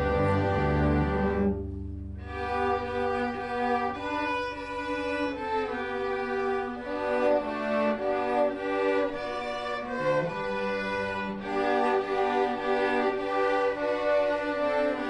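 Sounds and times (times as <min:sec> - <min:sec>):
string orchestra bowed chords: 0:00.0 - 0:15.0.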